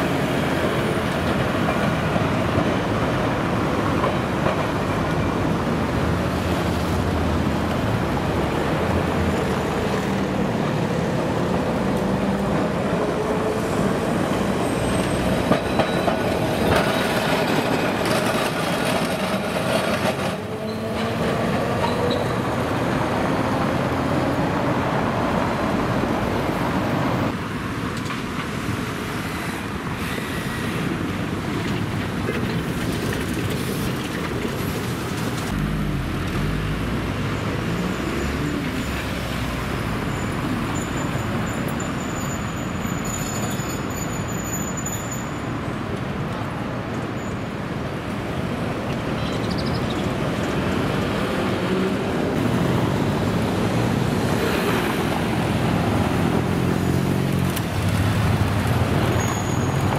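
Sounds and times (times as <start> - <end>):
tram running on street track: 0.0 - 59.9
trolleybuses and road traffic: 0.0 - 59.9.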